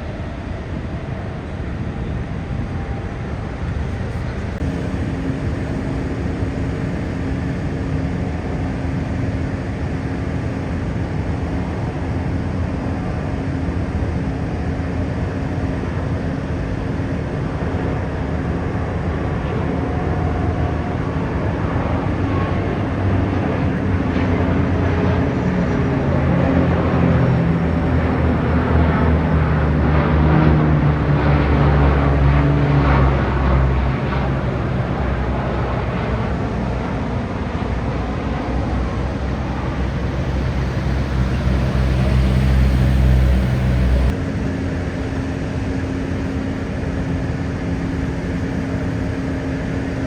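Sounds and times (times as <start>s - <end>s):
aircraft engine roar: 0.0s - 50.0s
low hum: 0.0s - 50.0s.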